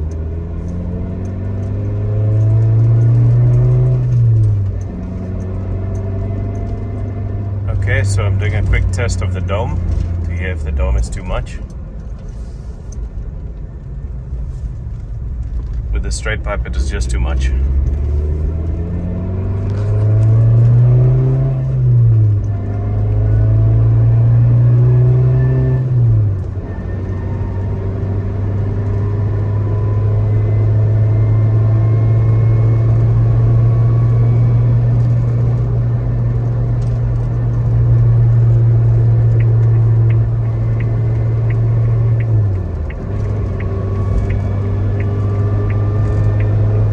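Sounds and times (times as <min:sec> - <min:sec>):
car engine loud low drone: 0:00.0 - 0:46.9.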